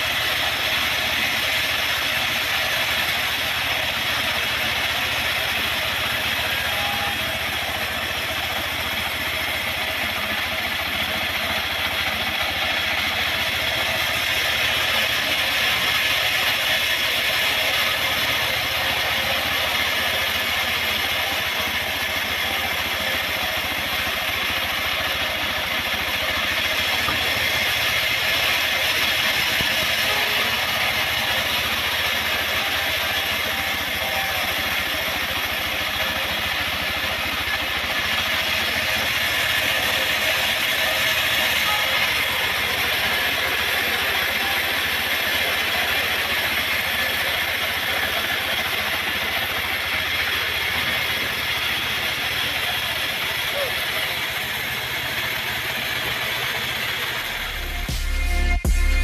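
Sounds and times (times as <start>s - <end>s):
sawmill mechanical clatter: 0.0s - 58.4s
engine hum: 0.0s - 59.0s.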